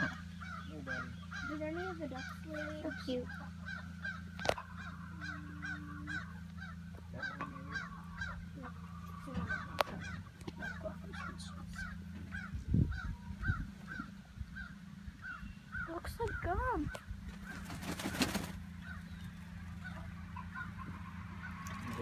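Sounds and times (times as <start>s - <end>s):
bird calling: 0.0s - 22.0s
steady low hum: 0.0s - 22.0s.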